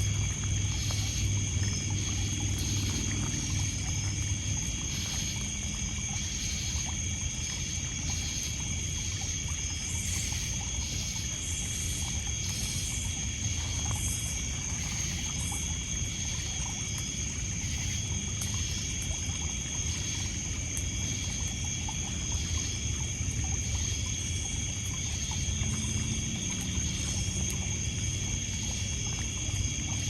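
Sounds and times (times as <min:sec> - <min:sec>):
crickets and insects trilling: 0:00.0 - 0:30.0.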